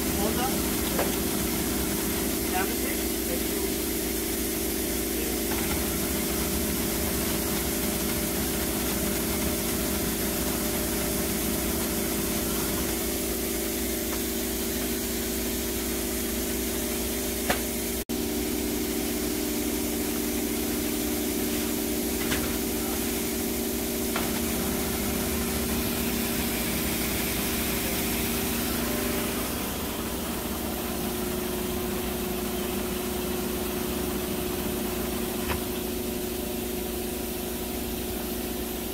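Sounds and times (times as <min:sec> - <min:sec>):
stitching machine humming: 0:00.0 - 0:37.9.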